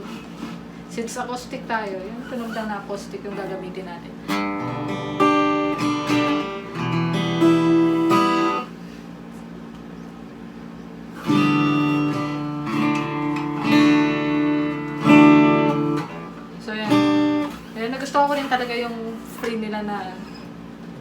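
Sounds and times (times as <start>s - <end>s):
acoustic guitar strumming: 0.0s - 8.9s, 11.0s - 20.6s.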